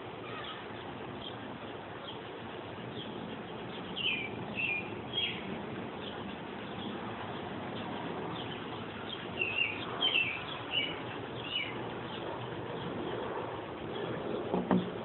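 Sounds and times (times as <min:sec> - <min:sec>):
outdoor background hush: 0:00.0 - 0:15.0
small songbirds chirping: 0:00.2 - 0:15.0.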